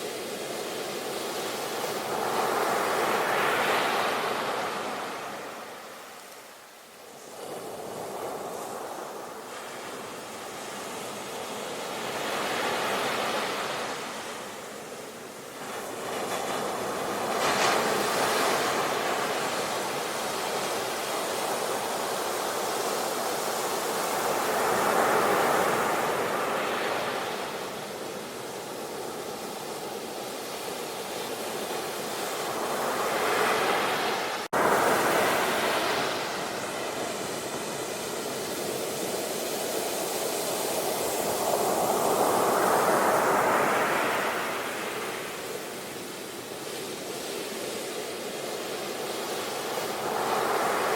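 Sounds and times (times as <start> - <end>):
ocean waves breaking: 7.3 - 50.9.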